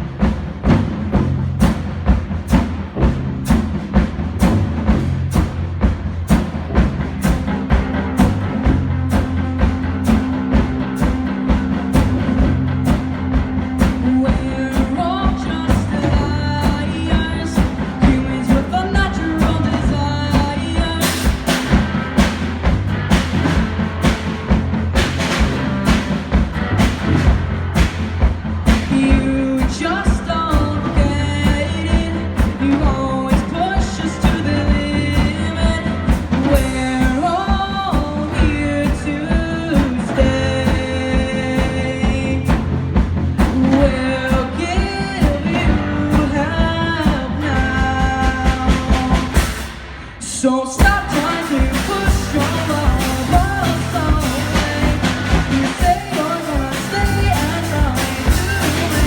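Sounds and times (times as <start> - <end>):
lead vocals: 0.0 - 59.0
live rock band: 0.0 - 59.0.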